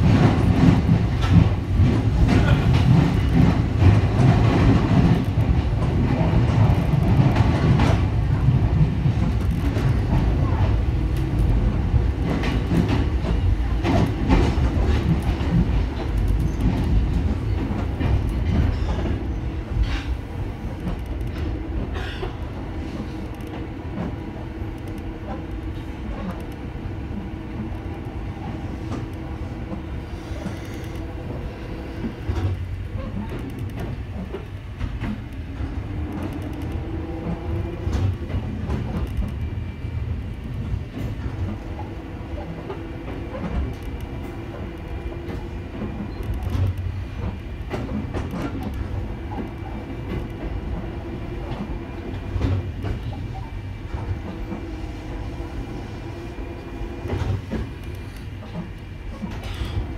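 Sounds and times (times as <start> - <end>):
rail joints clacking: 0.0 - 59.9
train wheels rumbling on rail: 0.0 - 59.9.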